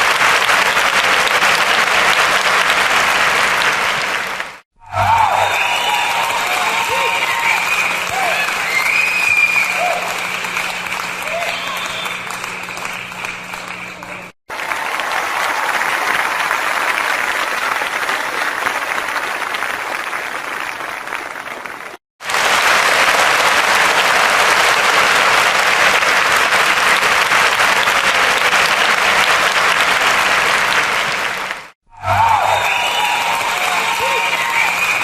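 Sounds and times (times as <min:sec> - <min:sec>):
crowd applause: 0:00.0 - 0:35.0.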